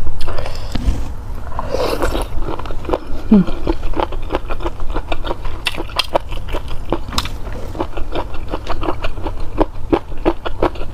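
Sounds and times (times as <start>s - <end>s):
wet chewing clicks and smacks: 2.1s - 10.9s.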